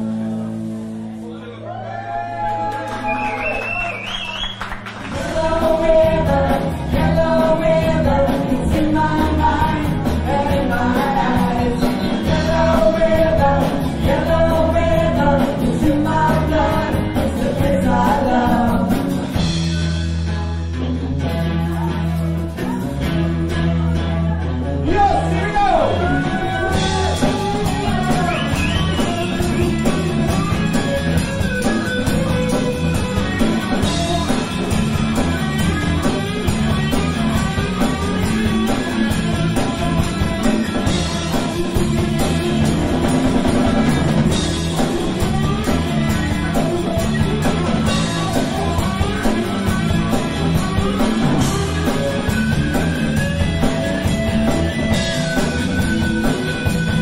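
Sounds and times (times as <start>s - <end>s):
electric guitars: 0.0s - 57.0s
drum kit beat: 4.5s - 20.3s, 26.2s - 57.0s.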